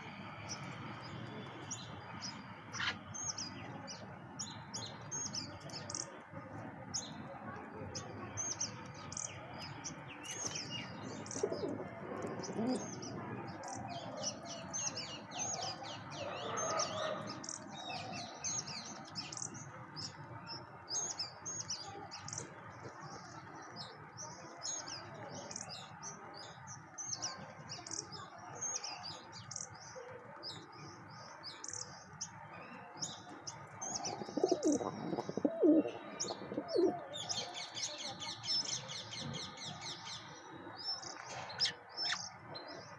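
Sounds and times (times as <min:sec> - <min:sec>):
flock of birds chirping: 0:00.0 - 0:42.9.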